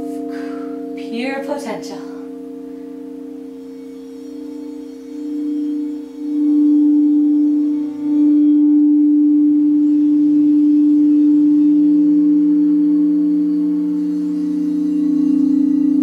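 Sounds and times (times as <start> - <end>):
crystal singing bowl ringing: 0.0 - 16.0
lower singing bowl tone: 0.0 - 16.0.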